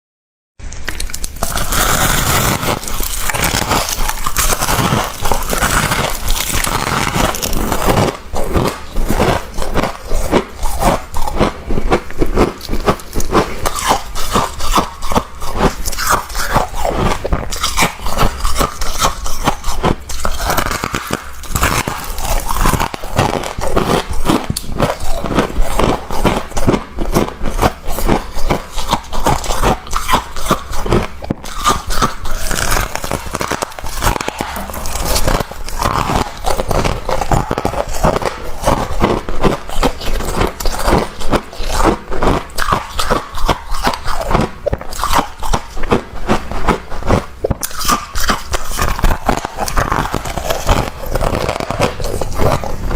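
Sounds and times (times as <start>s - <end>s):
frost crunching and scraping: 0.7s - 52.9s.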